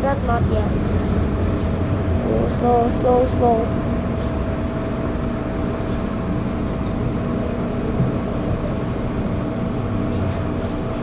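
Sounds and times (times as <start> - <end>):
train carriage rumble and hum: 0.0 - 11.0.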